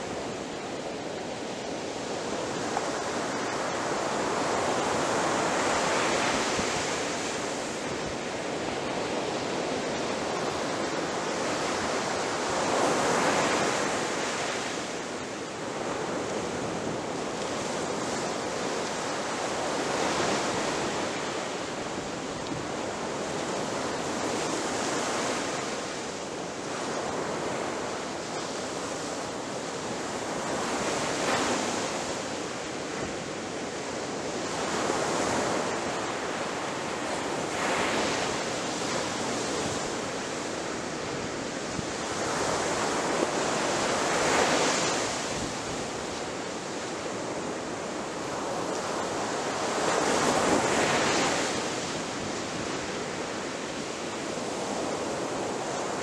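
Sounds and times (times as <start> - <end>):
ocean surf breaking on shore: 0.0 - 56.0.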